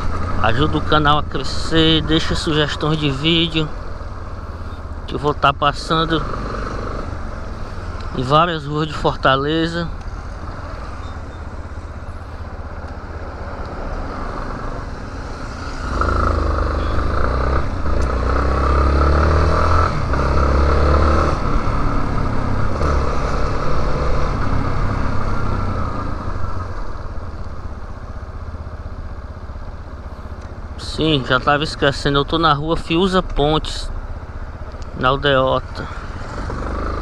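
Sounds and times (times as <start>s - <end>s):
motorcycle engine revving: 0.0s - 37.0s
road and wind noise: 0.0s - 37.0s.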